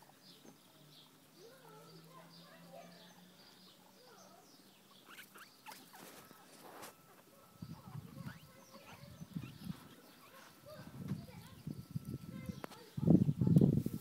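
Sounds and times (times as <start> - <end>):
guinea pigs squeaking: 1.0 - 13.8.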